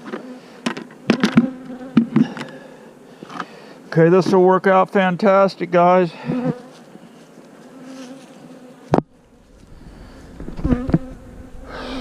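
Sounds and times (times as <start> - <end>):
bees buzzing: 0.0 - 3.8, 6.1 - 12.0.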